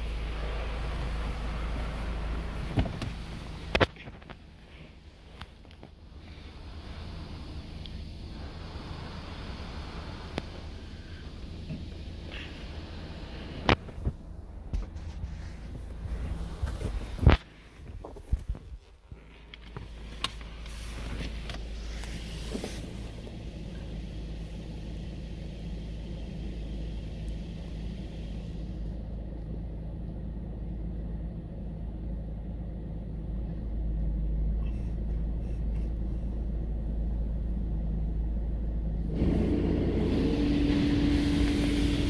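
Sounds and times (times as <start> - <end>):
car wash low rumble: 0.0 - 42.0
steady hum: 0.0 - 42.0.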